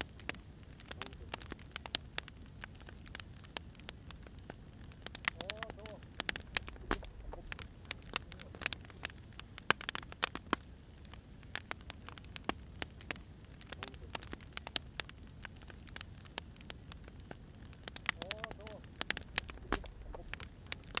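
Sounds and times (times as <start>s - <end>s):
low steady fire rumble: 0.0s - 21.0s
wood fire crackling and popping: 0.0s - 21.0s.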